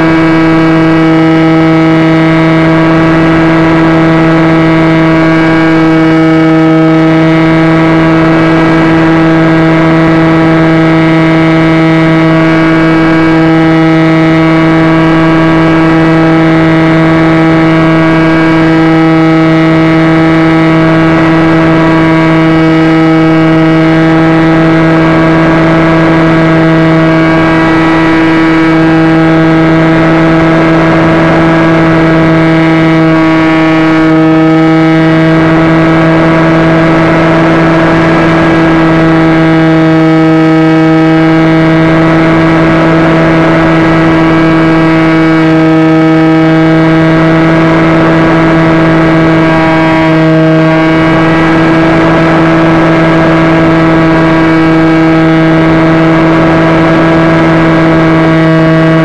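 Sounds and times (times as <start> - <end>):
model airplane motor and propeller: 0.0 - 59.0.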